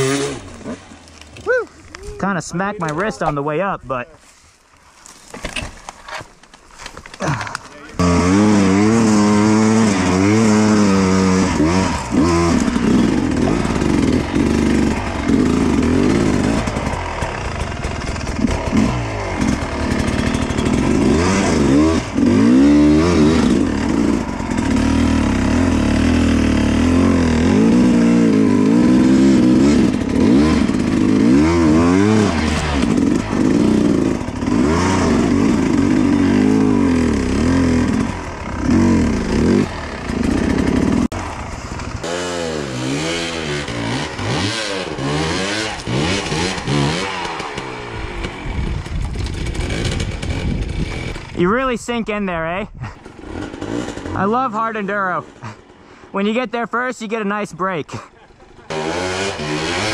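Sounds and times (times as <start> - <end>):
dirt bike engine revving: 0.0 - 1.0, 7.3 - 59.9.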